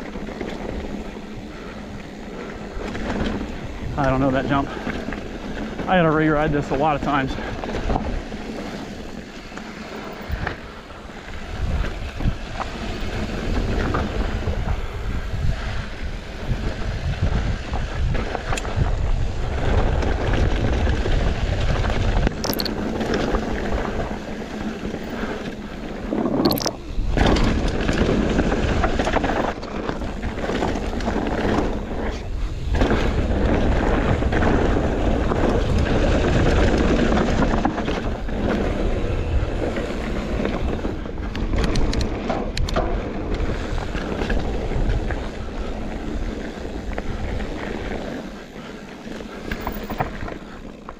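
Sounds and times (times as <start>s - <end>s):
mountain bike rattling over dirt: 0.0s - 50.9s
wind buffeting microphone: 0.0s - 50.9s.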